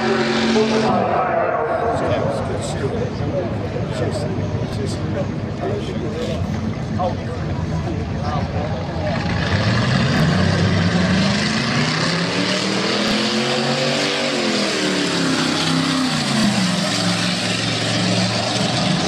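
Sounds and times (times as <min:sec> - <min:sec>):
car engine accelerating: 0:00.0 - 0:04.2, 0:07.0 - 0:19.0.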